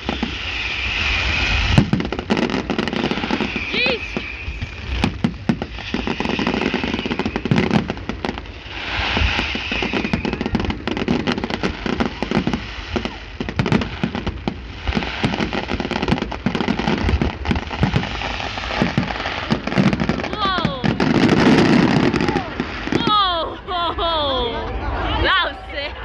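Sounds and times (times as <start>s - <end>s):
fireworks hiss: 0.0s - 23.0s
fireworks crackling and banging: 0.0s - 26.0s.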